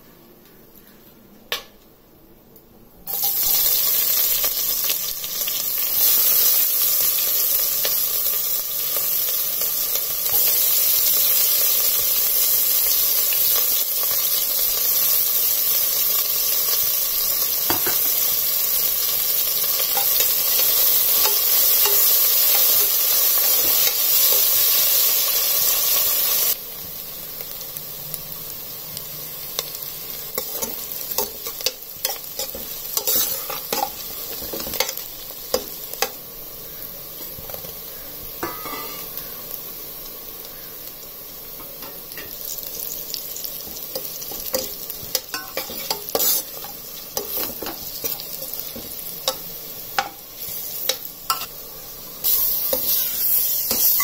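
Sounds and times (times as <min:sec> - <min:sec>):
onions sizzling in hot oil: 0:03.1 - 0:54.0.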